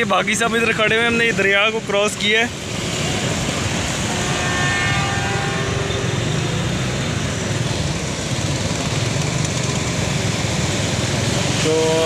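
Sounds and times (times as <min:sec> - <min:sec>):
vehicle engines droning: 0:00.0 - 0:12.0.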